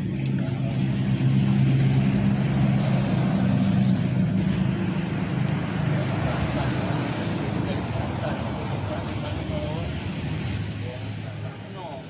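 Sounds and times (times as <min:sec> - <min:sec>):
engine humming: 0:00.0 - 0:12.0
rain hissing on water: 0:00.0 - 0:12.0.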